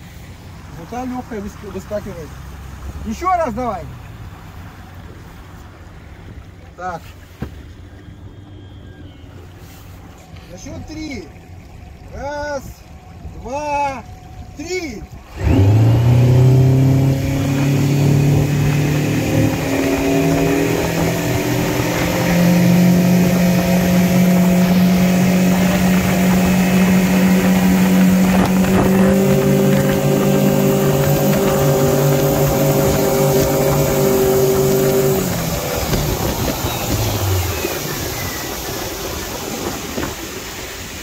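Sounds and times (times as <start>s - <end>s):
outboard motor accelerating: 0.0s - 41.0s
wind and water rush: 0.0s - 41.0s.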